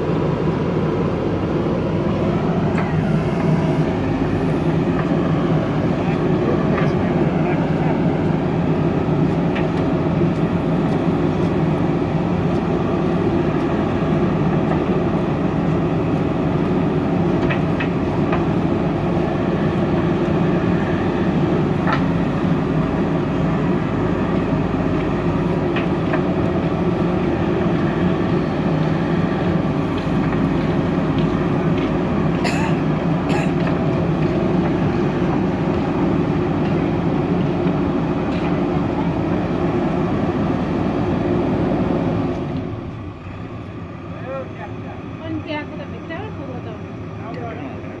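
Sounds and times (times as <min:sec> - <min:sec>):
diesel engine under load: 0:00.0 - 0:48.0.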